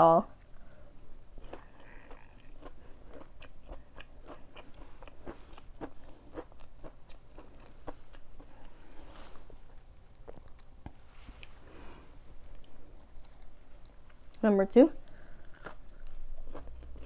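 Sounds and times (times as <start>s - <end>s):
crunchy chewing: 0.4s - 17.0s.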